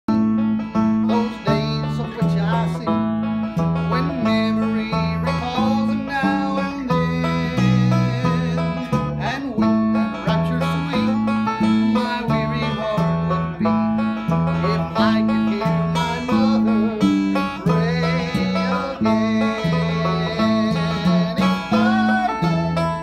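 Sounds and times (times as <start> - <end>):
country gospel string band music: 0.0 - 23.0.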